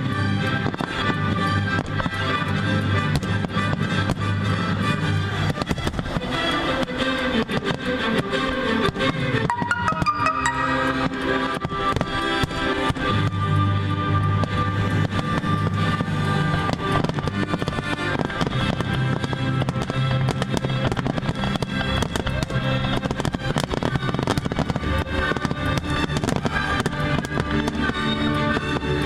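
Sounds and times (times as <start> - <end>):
fireworks crackling and banging: 0.0 - 29.0
music: 0.0 - 29.0.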